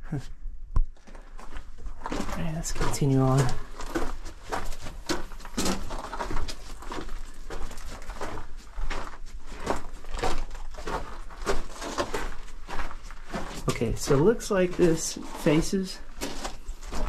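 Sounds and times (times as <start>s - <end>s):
footsteps crunching on gravel: 1.0s - 17.0s.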